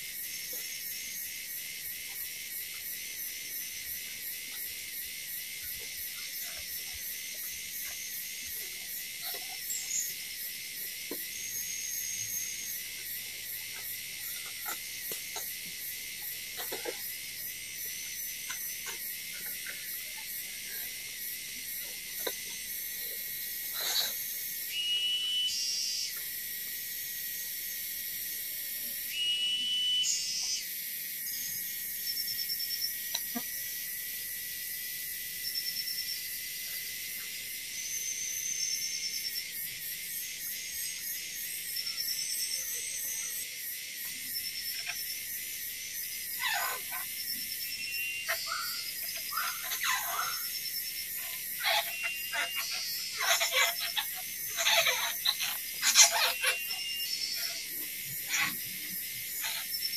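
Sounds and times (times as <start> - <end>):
insects shrilling: 0.0 - 59.9.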